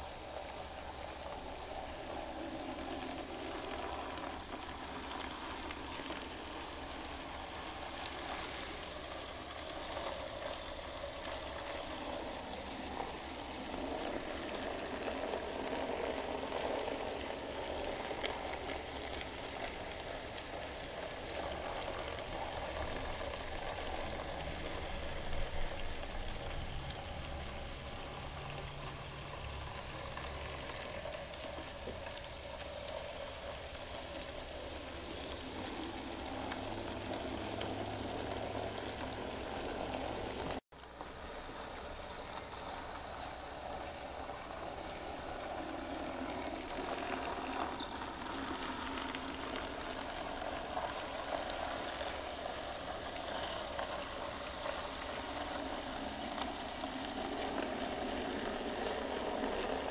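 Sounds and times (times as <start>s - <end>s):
small motors whirring: 0.0s - 59.9s
thin wavering high whine: 0.0s - 59.9s
wheels rumbling on rails: 0.0s - 59.9s.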